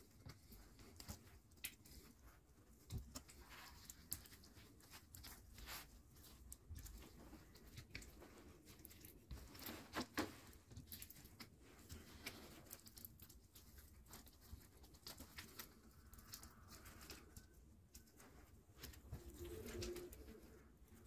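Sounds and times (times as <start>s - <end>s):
faint clicks and rustles: 0.0s - 21.0s.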